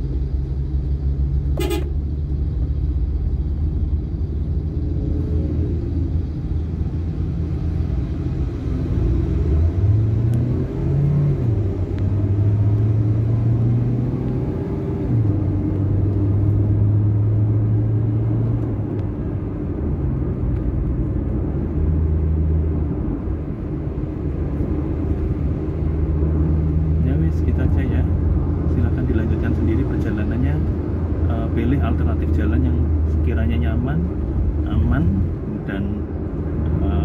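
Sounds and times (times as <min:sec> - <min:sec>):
car engine: 0:00.0 - 0:37.0
road noise: 0:00.0 - 0:37.0.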